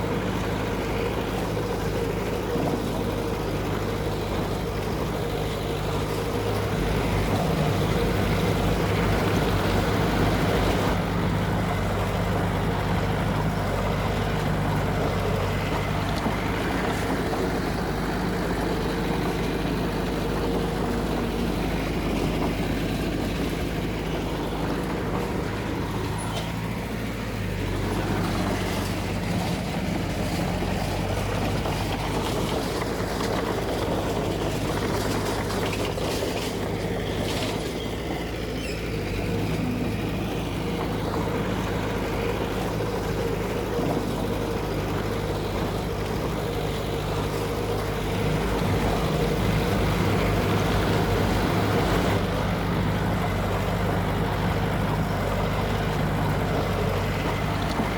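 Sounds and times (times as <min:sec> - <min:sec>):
heavy diesel engine under load: 0:00.0 - 0:57.9.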